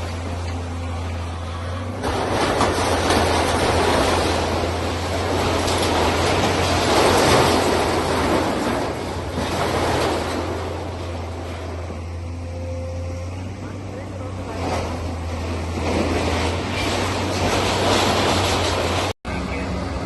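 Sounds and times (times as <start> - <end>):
heavy machinery engine hum: 0.0 - 20.0.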